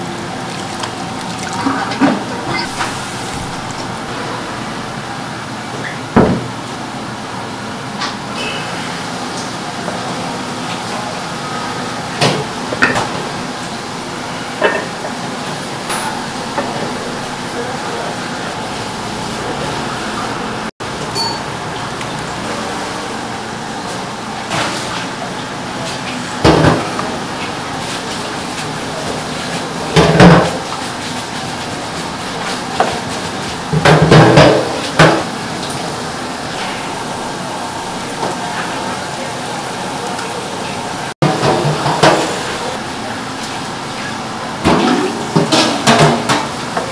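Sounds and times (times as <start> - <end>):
steady background noise: 0.0 - 46.9.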